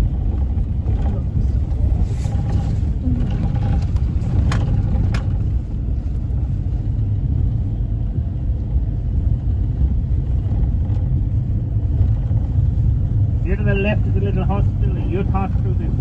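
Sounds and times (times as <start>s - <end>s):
vehicle engine and tyre rumble: 0.0s - 16.0s.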